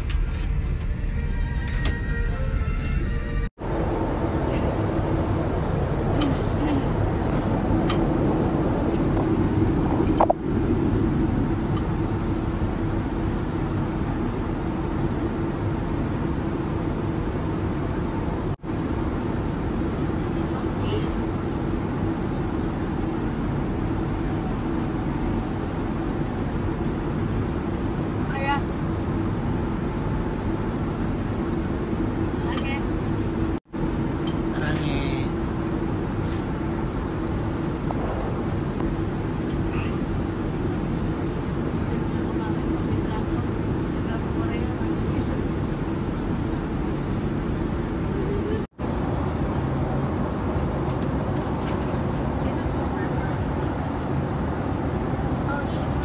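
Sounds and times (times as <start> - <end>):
airliner cabin noise: 0.0 - 56.0
steady low hum: 0.0 - 56.0.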